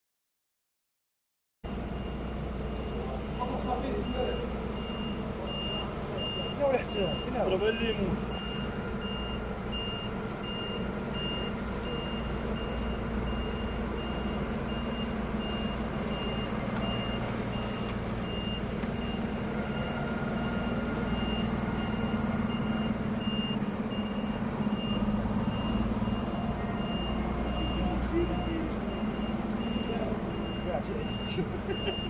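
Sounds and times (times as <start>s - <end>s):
truck engine humming: 1.7s - 32.0s
truck reversing alarm beeping: 1.7s - 32.0s.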